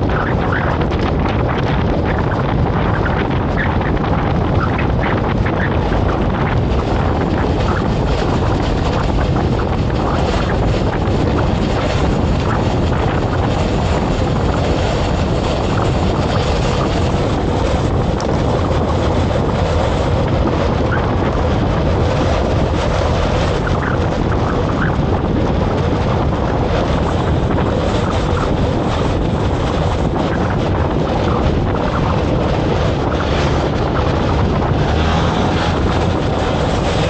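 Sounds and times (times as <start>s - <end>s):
wind rushing on microphone: 0.0s - 37.0s.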